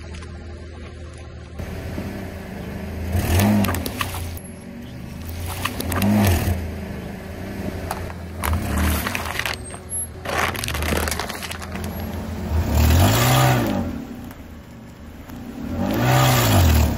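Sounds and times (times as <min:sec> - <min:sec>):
car engine revving: 0:01.6 - 0:16.9.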